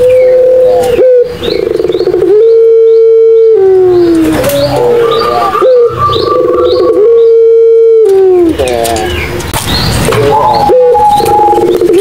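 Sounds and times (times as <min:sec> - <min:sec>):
dove cooing loudly: 0:00.0 - 0:08.9, 0:10.1 - 0:12.0.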